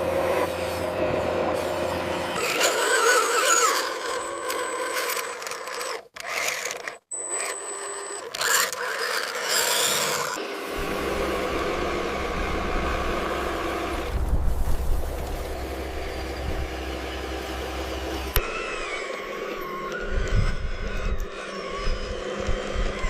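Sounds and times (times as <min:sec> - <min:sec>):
rc construction vehicles scraping: 0:00.0 - 0:23.0.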